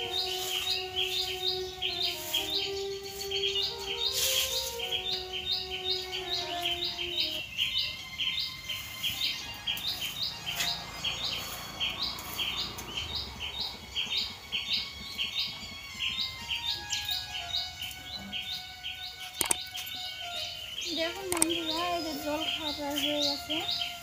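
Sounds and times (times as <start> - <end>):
bird chirping: 0.0 - 24.0
held musical notes: 0.0 - 24.0.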